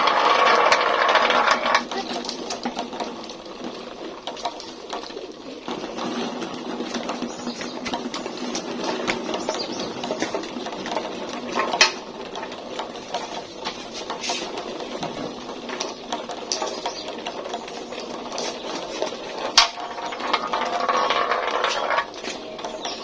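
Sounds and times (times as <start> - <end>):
marbles rattling down plastic track: 0.0 - 23.0.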